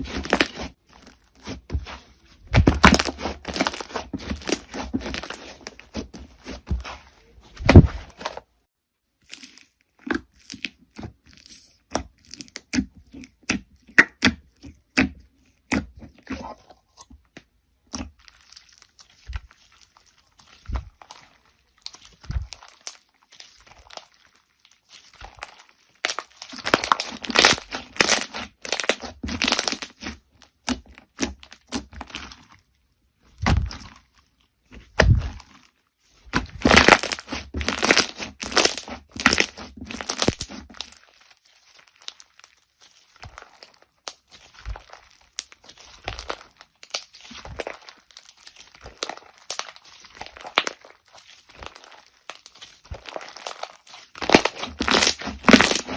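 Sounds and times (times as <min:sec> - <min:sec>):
crunchy slime crackling and popping: 0:00.0 - 0:55.9.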